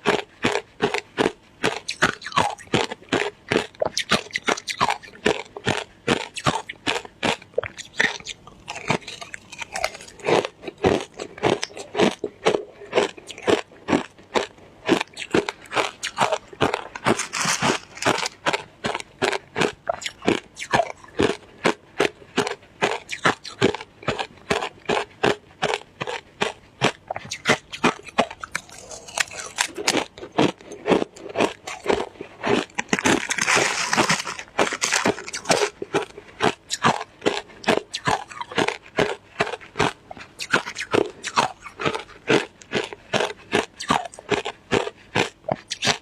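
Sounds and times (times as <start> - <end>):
crunching and chewing shaved ice: 0.0 - 46.0.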